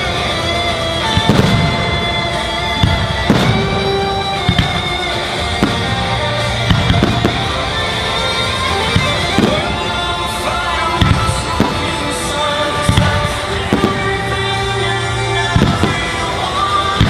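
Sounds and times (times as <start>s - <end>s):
fireworks bursting: 0.0s - 17.0s
music with sustained notes: 0.0s - 17.0s.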